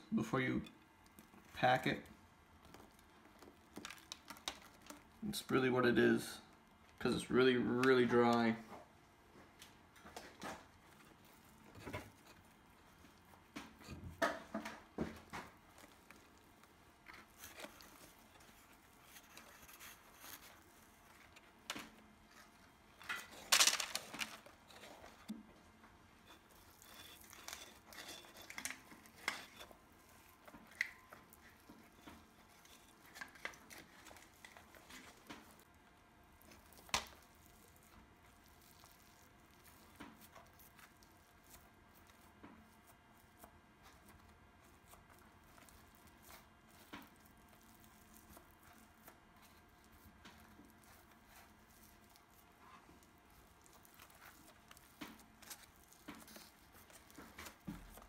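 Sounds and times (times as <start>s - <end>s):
gloved hands packing crumbly cement: 0.1s - 58.0s
rustling: 9.3s - 35.8s, 36.4s - 58.0s.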